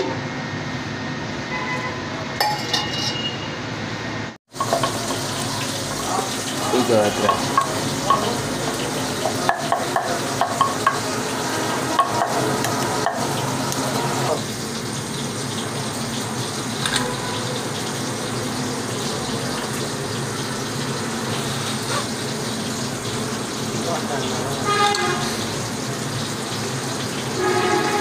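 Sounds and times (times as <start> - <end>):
food sizzling in a pot: 4.5 - 28.0.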